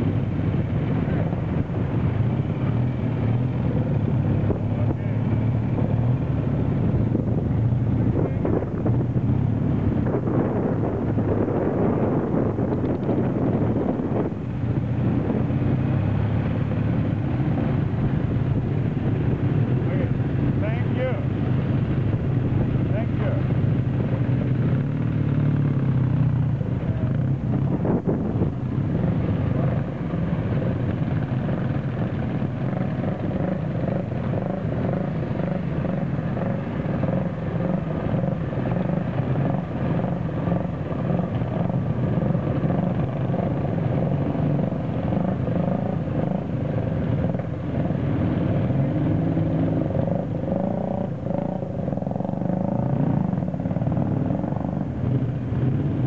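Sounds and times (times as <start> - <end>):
motorcycle engines droning: 0.0 - 56.0.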